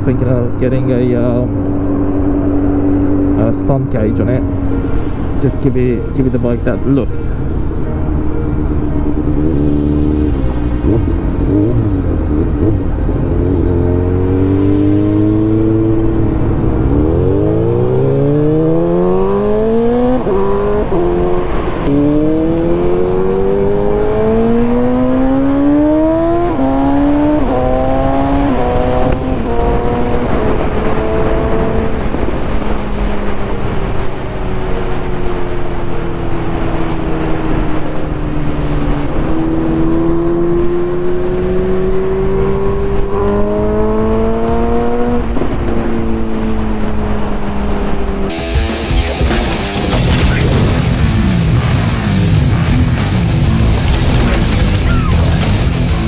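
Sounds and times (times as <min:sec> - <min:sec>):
motorcycle engine revving: 0:06.0 - 0:56.0.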